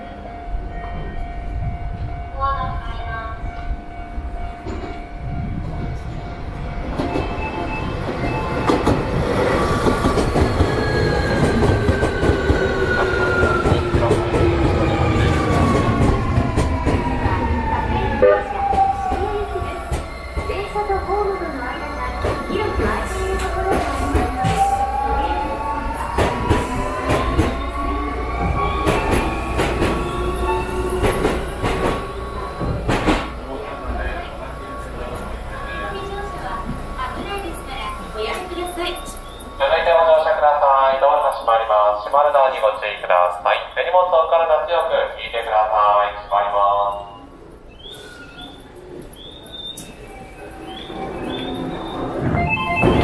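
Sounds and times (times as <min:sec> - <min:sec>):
electric train whining: 0:03.4 - 0:42.2, 0:46.0 - 0:53.0
rail clicks: 0:04.5 - 0:41.7, 0:46.3 - 0:53.0.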